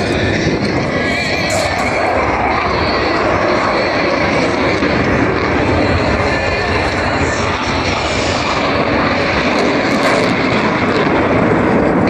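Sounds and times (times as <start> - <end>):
jet roaring overhead: 0.0 - 12.0.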